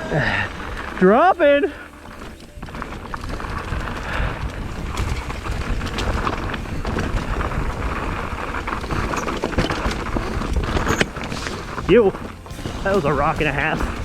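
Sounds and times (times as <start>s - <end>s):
bike rattling over rocks: 0.0s - 14.0s
tyres rumbling on rock: 0.0s - 14.0s
wind buffeting microphone: 0.0s - 14.0s.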